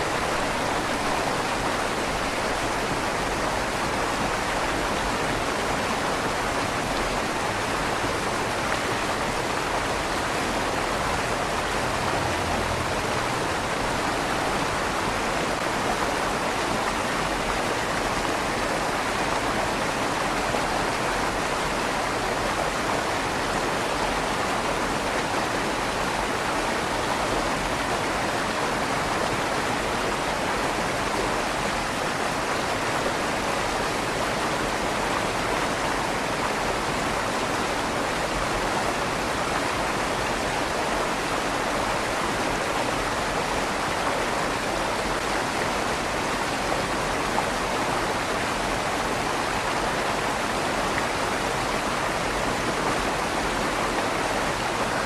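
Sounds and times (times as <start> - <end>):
river water rushing under bridge: 0.0 - 55.0.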